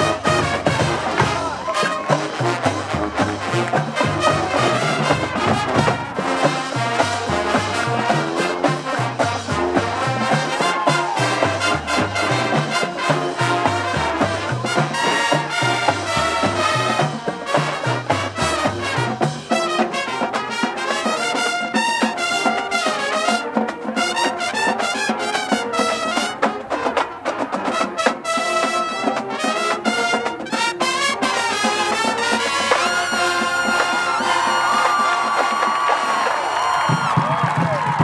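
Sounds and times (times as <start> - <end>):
brass band playing swing: 0.0 - 38.0
percussion: 0.0 - 38.0.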